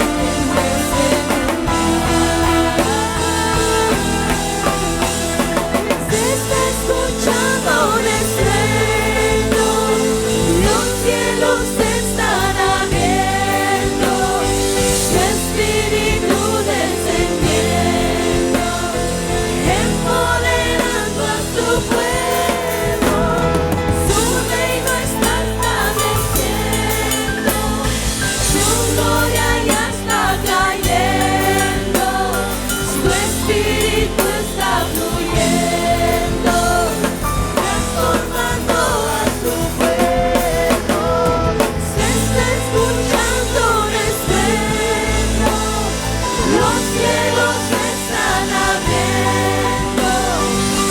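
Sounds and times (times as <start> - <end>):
band with drums and bass: 0.0 - 50.9
person singing: 0.0 - 50.9.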